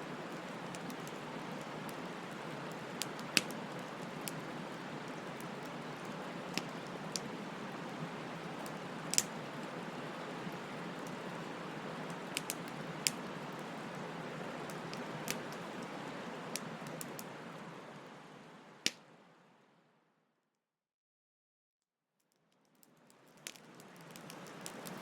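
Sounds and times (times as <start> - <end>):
wood fire crackling: 0.0 - 19.0, 22.8 - 25.0.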